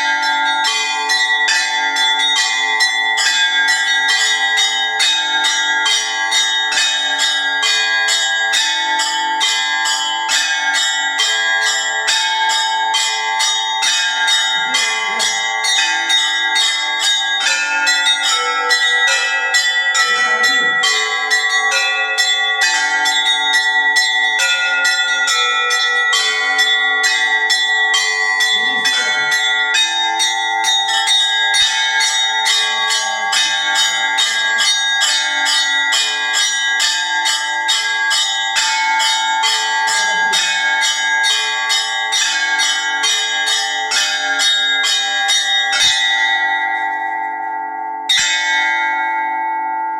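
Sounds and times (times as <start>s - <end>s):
large bells ringing: 0.0s - 49.9s
small bells struck rapidly: 0.0s - 49.9s.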